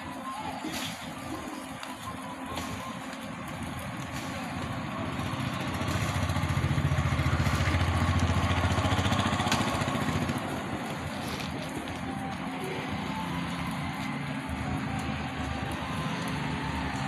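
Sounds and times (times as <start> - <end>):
vehicle engine running: 2.9 - 17.0.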